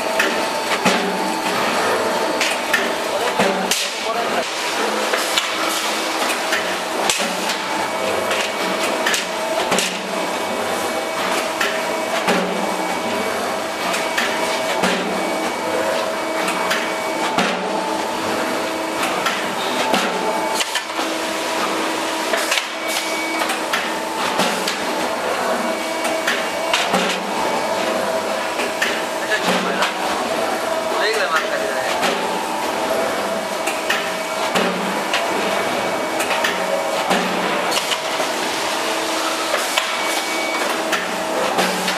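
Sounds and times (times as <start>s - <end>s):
machine hum: 0.0s - 41.9s.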